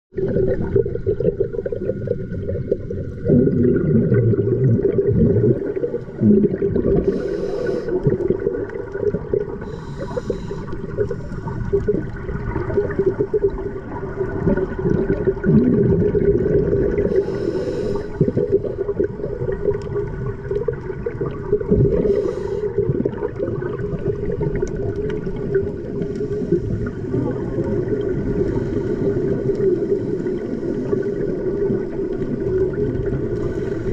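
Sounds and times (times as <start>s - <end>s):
low underwater noise: 0.1s - 33.9s
hissing exhaled bubbles: 0.2s - 33.9s.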